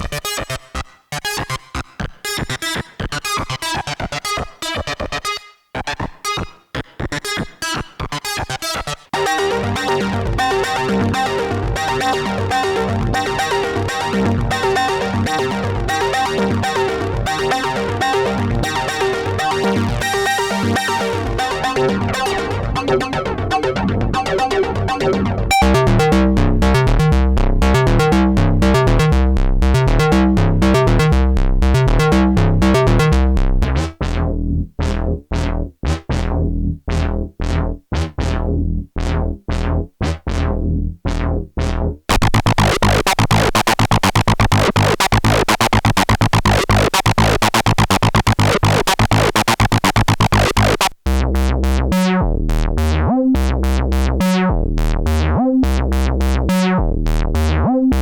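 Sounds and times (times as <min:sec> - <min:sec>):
analog synthesizer bass notes: 0:09.2 - 0:58.0.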